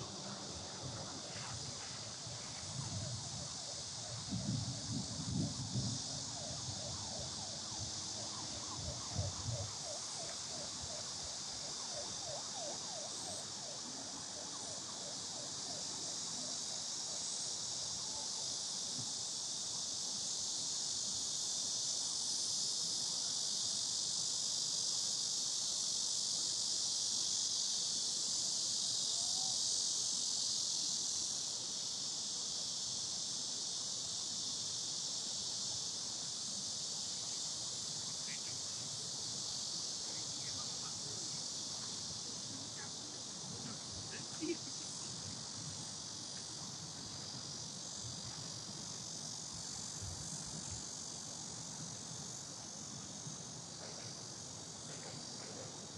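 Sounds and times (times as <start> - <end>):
cicada chorus buzzing: 0.0 - 55.9
lower rapidly pulsing insect call: 0.0 - 55.9.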